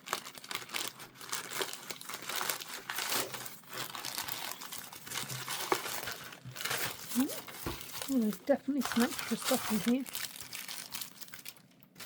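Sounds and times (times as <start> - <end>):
paper packaging crinkling: 0.0 - 12.0.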